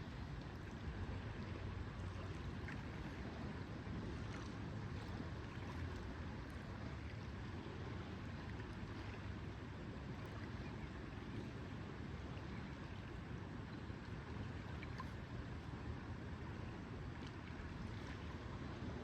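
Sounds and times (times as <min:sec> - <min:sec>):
water lapping at shore: 0:00.0 - 0:19.0.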